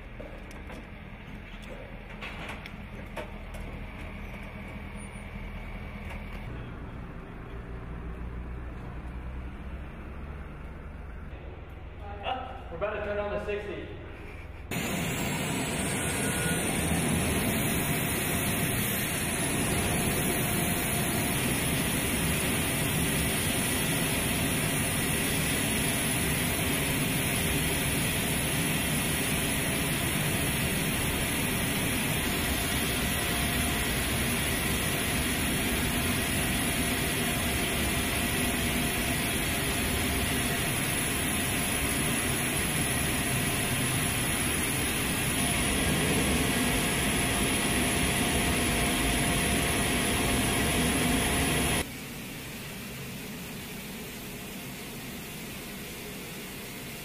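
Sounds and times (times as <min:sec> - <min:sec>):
turbine whine: 0:00.0 - 0:12.3, 0:14.2 - 0:57.0.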